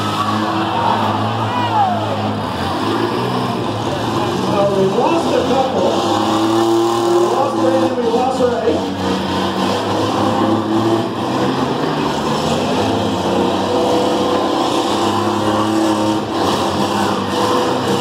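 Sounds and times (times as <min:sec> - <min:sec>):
minivan engines running: 0:00.0 - 0:18.0.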